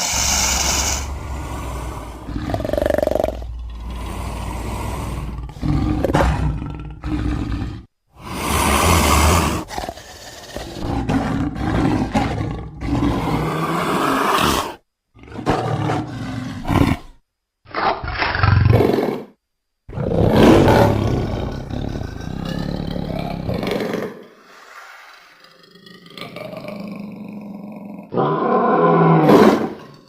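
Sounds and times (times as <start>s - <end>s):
big cat roaring and snarling: 0.0s - 19.3s, 19.9s - 24.2s, 24.9s - 30.0s.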